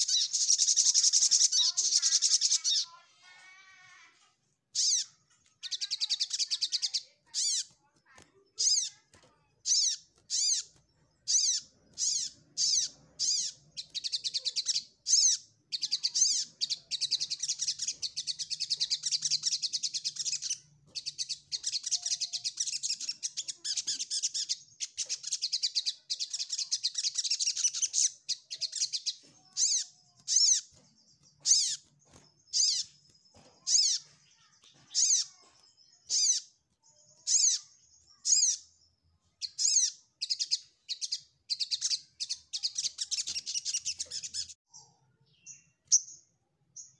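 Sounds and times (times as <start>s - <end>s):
bird chirping and twittering: 0.0s - 46.9s.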